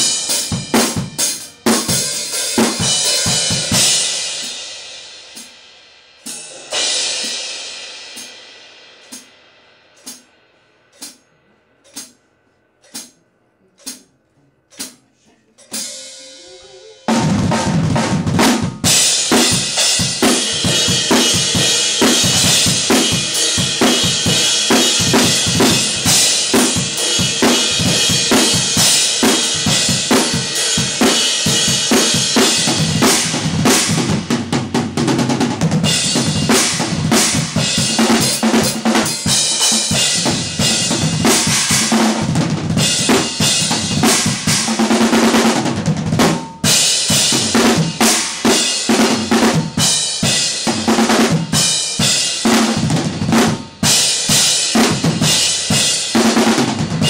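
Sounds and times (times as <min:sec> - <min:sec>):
rock drum kit groove: 0:00.0 - 0:12.2, 0:15.6 - 0:16.4, 0:17.0 - 0:57.0.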